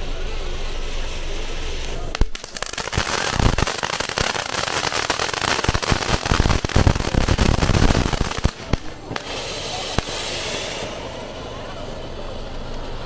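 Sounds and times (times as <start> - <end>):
firecrackers cracking and popping: 0.0 - 12.8.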